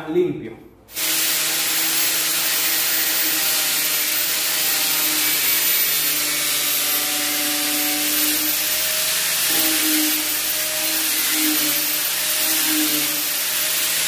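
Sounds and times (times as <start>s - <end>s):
angle grinder sanding plastic: 0.9s - 14.0s.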